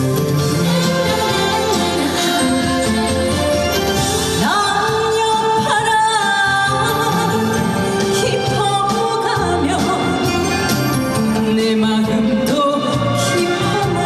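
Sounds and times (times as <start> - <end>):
backing music: 0.0 - 14.0
woman singing: 0.6 - 3.4, 4.4 - 10.5, 11.2 - 14.0.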